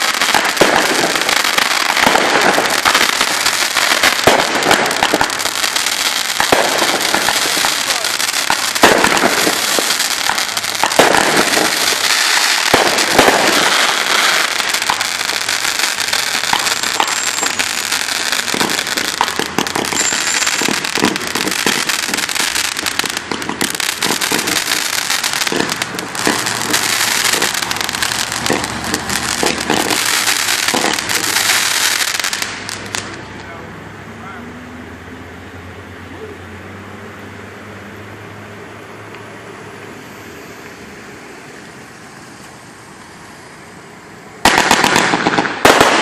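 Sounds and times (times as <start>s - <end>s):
fireworks crackling and popping: 0.0s - 33.7s, 39.1s - 46.0s.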